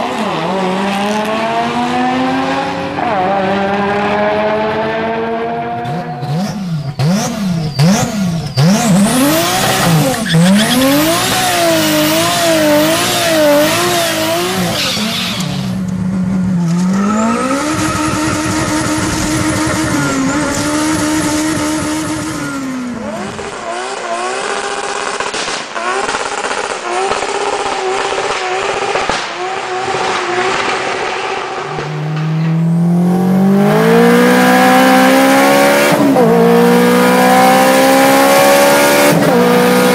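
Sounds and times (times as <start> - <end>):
turbocharged car engines revving: 0.0 - 39.9.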